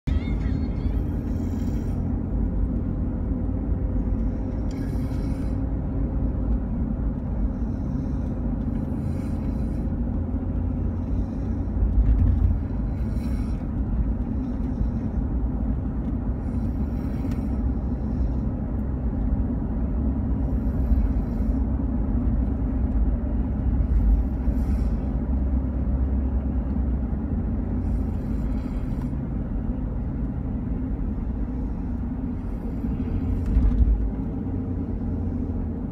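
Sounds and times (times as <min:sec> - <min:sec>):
steady low rumble: 0:00.0 - 0:35.9.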